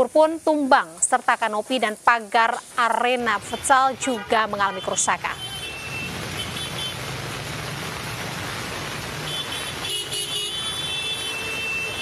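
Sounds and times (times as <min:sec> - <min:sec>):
rain and water hiss: 0:00.0 - 0:12.0.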